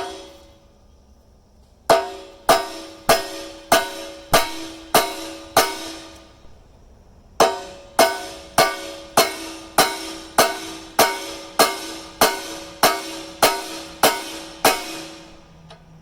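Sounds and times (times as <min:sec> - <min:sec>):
sledgehammer striking steel: 0:00.0 - 0:00.6, 0:01.9 - 0:06.6, 0:07.4 - 0:15.6.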